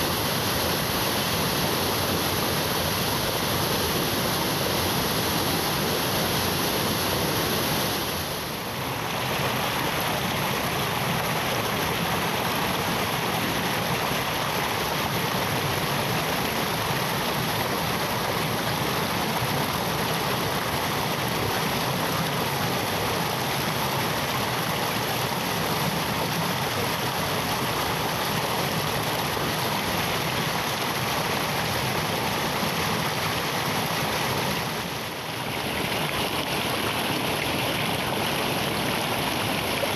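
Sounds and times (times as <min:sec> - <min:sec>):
waterfall pouring: 0:00.0 - 0:39.9.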